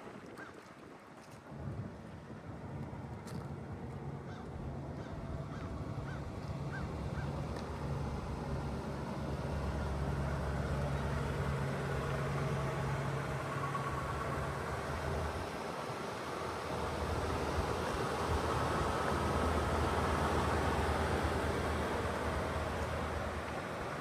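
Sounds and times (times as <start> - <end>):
wind and road hiss: 1.4 - 24.0
car engine droning: 2.5 - 24.0.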